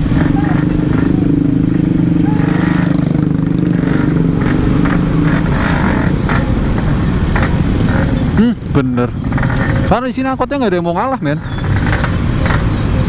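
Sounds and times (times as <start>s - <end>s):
motorcycle riding at low revs: 0.0s - 13.0s.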